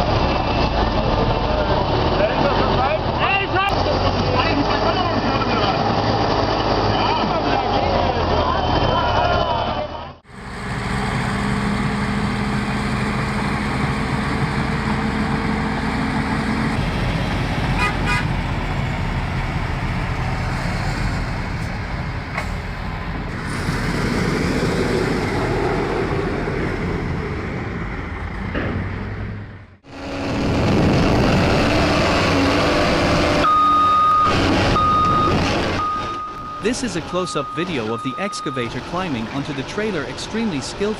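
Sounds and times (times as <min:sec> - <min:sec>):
construction machinery engines: 0:00.0 - 0:40.9.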